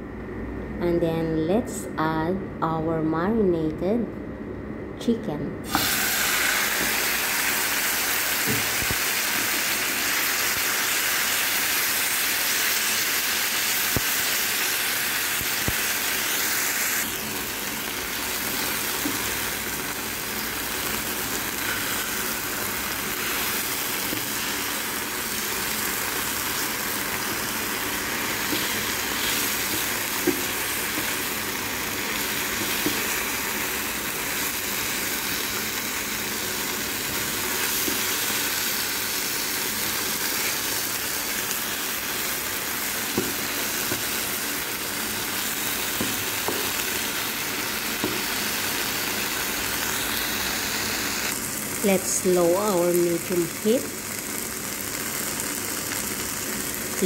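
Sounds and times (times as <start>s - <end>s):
chicken sizzling in a frying pan: 5.7s - 57.0s.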